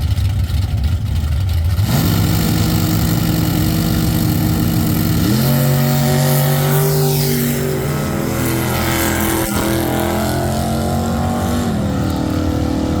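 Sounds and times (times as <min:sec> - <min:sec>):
race truck engine revving: 0:00.8 - 0:13.0.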